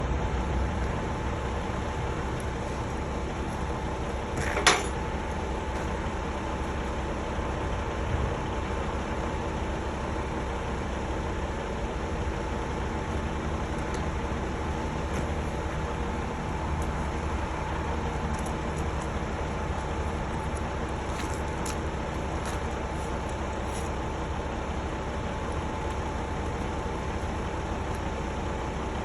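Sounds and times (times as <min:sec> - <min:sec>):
machine rumbling and humming: 0:00.0 - 0:29.0.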